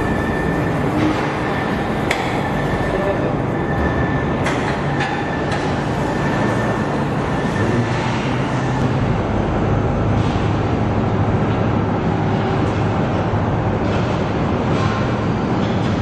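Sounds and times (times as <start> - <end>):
assembly line machinery rumble: 0.0 - 16.0.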